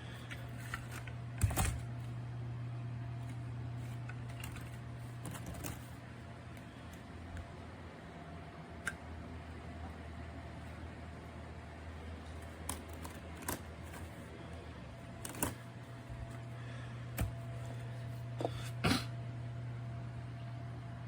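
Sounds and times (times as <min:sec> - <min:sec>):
small fan humming: 0:00.0 - 0:21.0.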